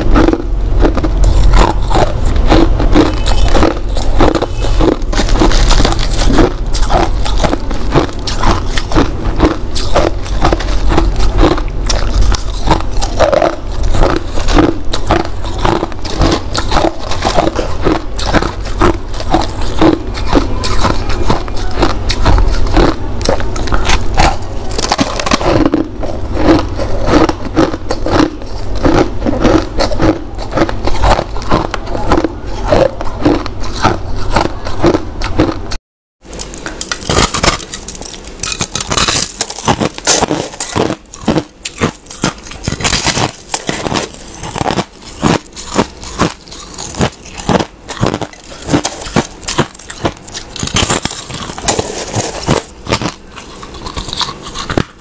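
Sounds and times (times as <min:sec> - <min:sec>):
crushed ice being chewed: 0:00.0 - 0:55.0.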